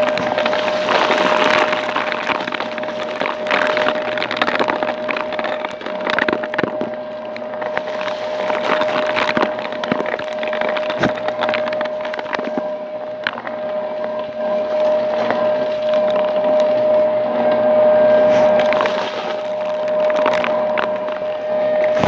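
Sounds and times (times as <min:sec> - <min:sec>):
debris crackling through vacuum head: 0:00.0 - 0:22.0
vacuum motor whine: 0:00.0 - 0:22.0.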